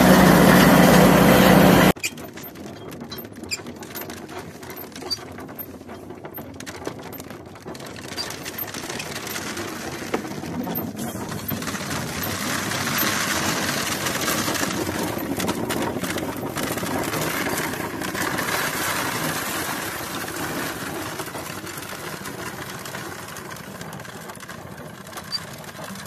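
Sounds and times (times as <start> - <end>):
hand-cranked winnowing fan rattling: 0.0 - 26.0
thresher engine running loudly: 0.0 - 26.0.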